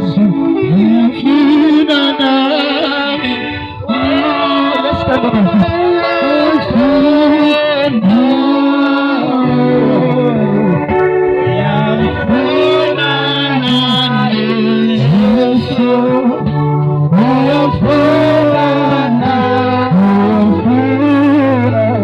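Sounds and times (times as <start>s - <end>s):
instrumental accompaniment: 0.0s - 22.0s
person singing long notes: 0.0s - 22.0s.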